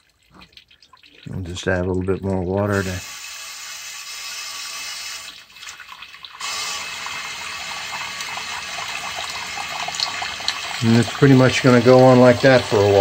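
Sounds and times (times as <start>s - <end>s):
water pouring into a steel bucket: 0.0s - 13.0s.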